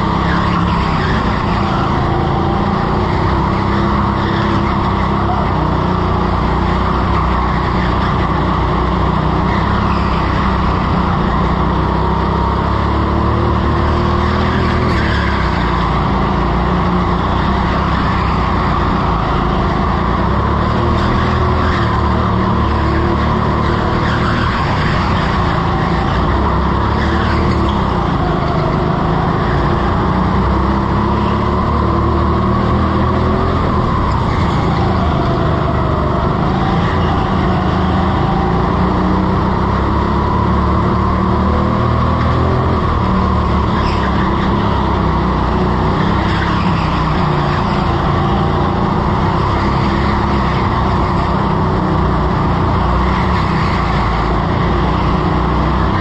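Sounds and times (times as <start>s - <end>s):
go-kart motor: 0.0s - 56.0s
tyres skidding: 0.0s - 56.0s.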